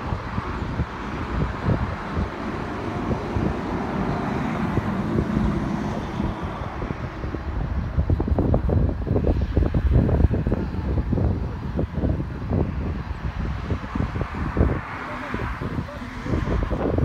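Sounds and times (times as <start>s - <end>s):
distant jet engines rumbling: 0.0s - 17.0s
wind buffeting microphone: 0.0s - 17.0s.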